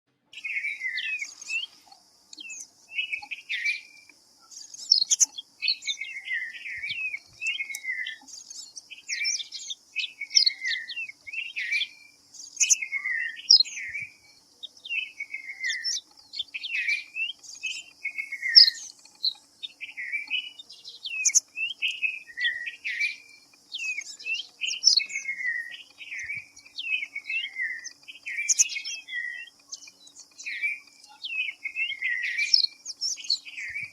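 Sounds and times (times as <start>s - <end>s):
steady high-pitched hiss: 0.2s - 33.9s
bulbuls chirping: 0.4s - 33.9s.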